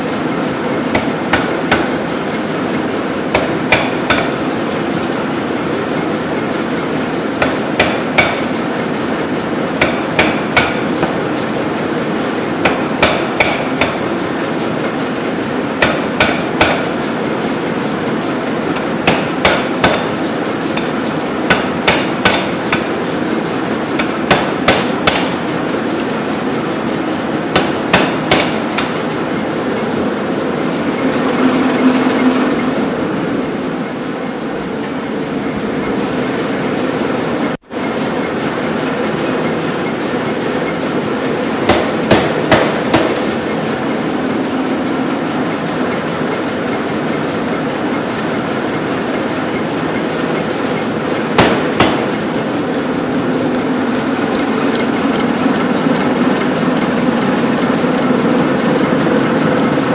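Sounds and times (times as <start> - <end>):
hammer machine running noise: 0.0 - 59.9.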